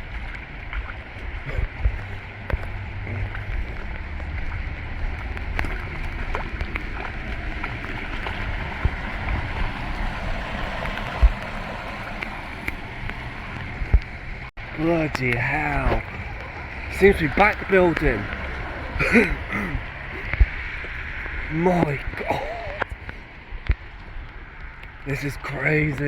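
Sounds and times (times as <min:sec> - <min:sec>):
torrential rain pouring: 0:00.0 - 0:26.0
water running and gurgling: 0:00.0 - 0:26.0.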